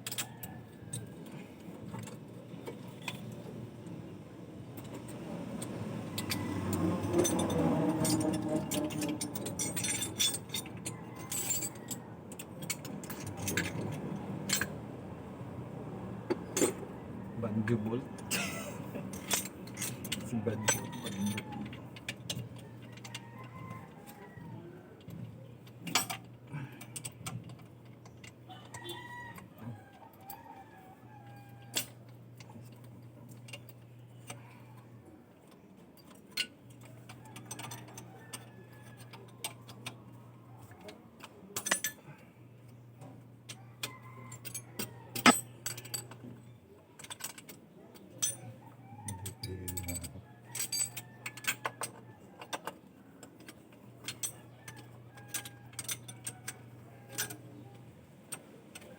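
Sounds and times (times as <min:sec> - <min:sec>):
tools and metal parts clinking: 0:00.0 - 0:03.6, 0:04.8 - 0:14.8, 0:16.3 - 0:16.8, 0:17.7 - 0:24.4, 0:25.0 - 0:30.4, 0:31.3 - 0:58.9.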